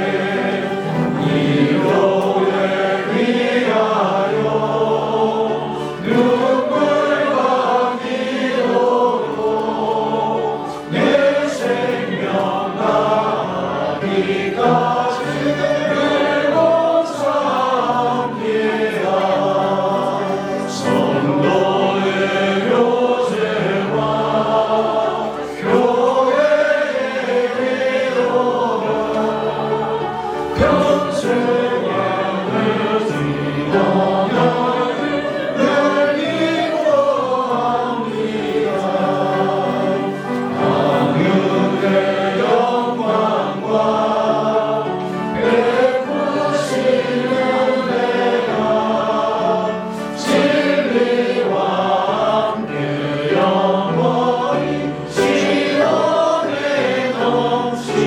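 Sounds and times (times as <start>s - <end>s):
congregation singing a hymn: 0.0s - 58.0s
instrumental accompaniment: 0.0s - 58.0s.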